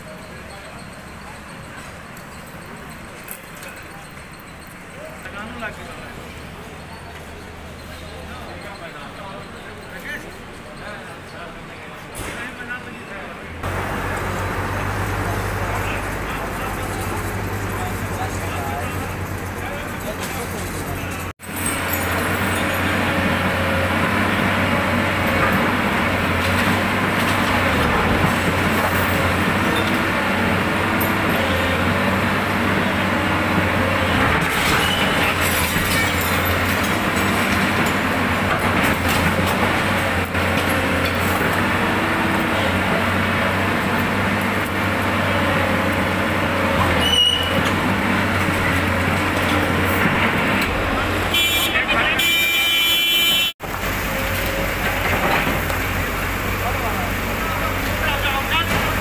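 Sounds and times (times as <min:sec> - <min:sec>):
excavator diesel engine running: 0:00.0 - 0:12.1, 0:13.4 - 0:59.0.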